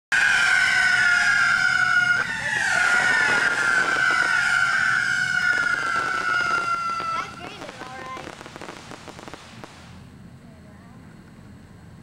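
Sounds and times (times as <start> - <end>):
whistling firework: 0.1 - 10.1.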